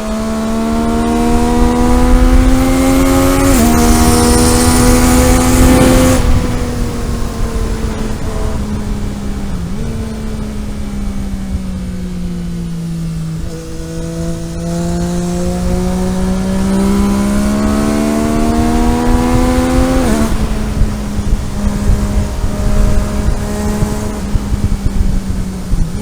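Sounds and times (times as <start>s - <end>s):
car engine revving: 0.0s - 26.0s
road and tyre rumble: 0.0s - 26.0s.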